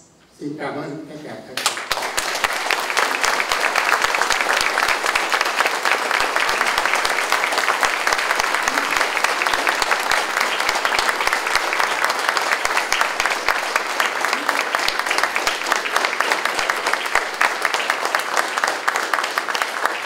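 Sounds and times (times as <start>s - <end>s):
audience applauding: 1.6s - 20.0s.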